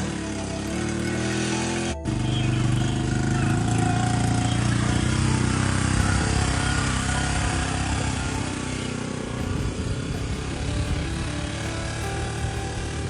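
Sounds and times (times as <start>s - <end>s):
small vehicle engine running: 0.0s - 13.0s.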